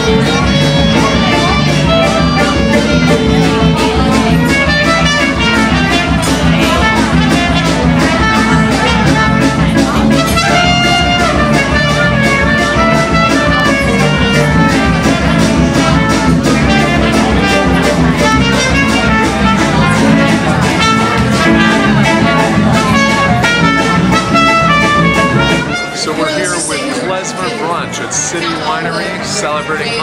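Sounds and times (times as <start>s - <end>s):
brass horns melody: 0.0s - 27.8s
band playing upbeat tune: 0.0s - 30.0s.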